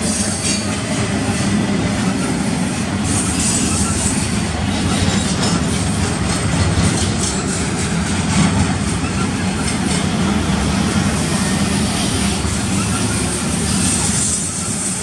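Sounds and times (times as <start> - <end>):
freight train wheels rumbling: 0.0 - 15.0
wheels clicking over rail joints: 0.0 - 15.0.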